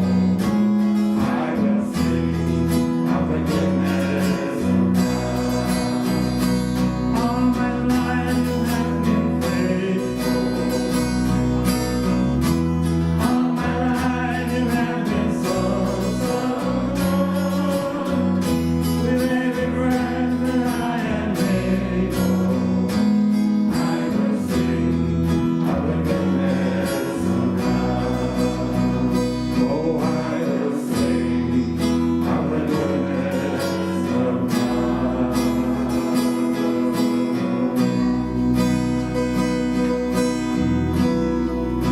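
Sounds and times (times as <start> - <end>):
held bass notes: 0.0 - 41.9
strummed acoustic guitar: 0.0 - 41.9.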